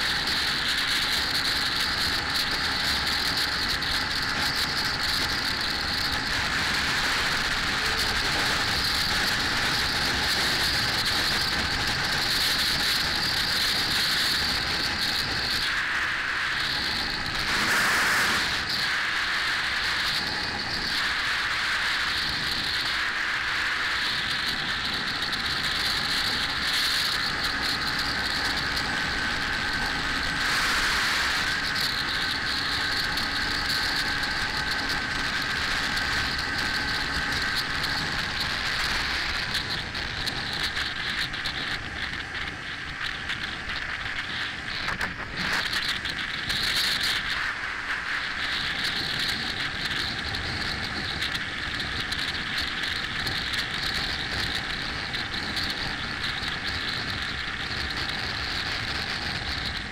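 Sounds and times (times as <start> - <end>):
motorcycle engine running: 0.0 - 59.9
wind rushing over camera: 0.0 - 59.9.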